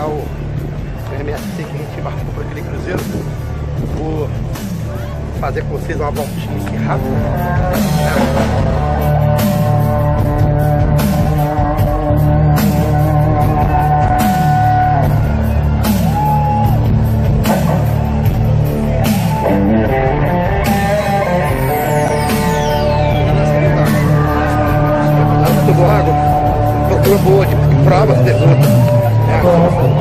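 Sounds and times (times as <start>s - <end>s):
rock music with guitar and drums: 0.0s - 30.0s.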